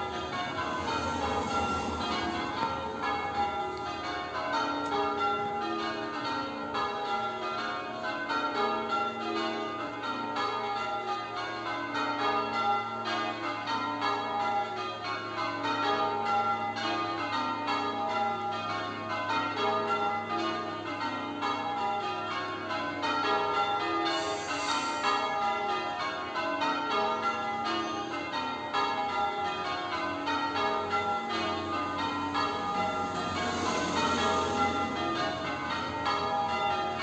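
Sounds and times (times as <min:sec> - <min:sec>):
church bells change-ringing: 0:00.0 - 0:37.0.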